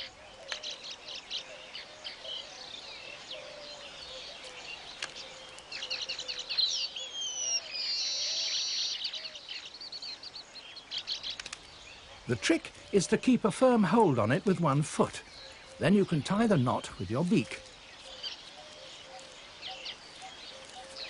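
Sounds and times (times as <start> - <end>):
weaver birds chattering: 0.0 - 21.0.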